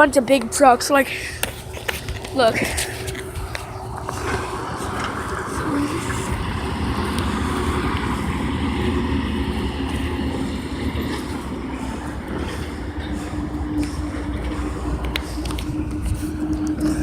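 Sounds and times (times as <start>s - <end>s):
heavy truck engine drone: 0.0s - 17.0s.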